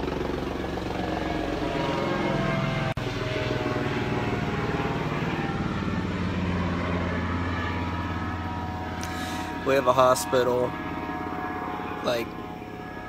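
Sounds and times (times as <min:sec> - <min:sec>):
helicopter rotor drone: 0:00.0 - 0:13.0.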